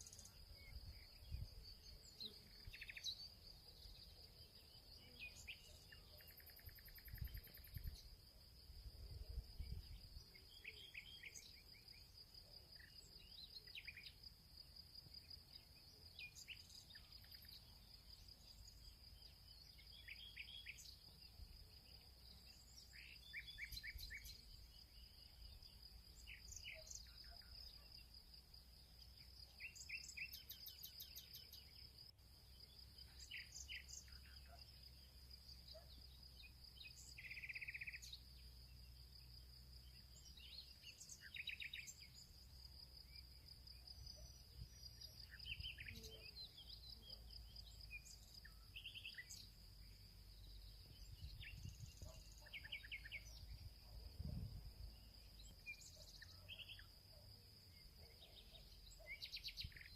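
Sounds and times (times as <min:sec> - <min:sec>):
bird chirps: 0:00.0 - 0:08.2, 0:09.6 - 0:14.3, 0:15.1 - 0:28.2, 0:28.9 - 0:31.9, 0:32.6 - 0:39.0, 0:39.8 - 0:42.4, 0:43.0 - 0:59.9
insect trill: 0:00.0 - 0:59.9.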